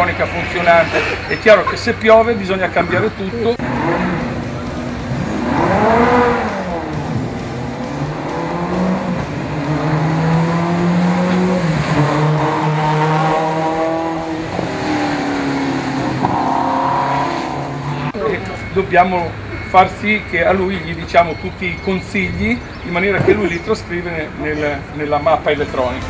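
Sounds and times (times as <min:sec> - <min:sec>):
race car engine at full throttle: 0:00.0 - 0:20.9.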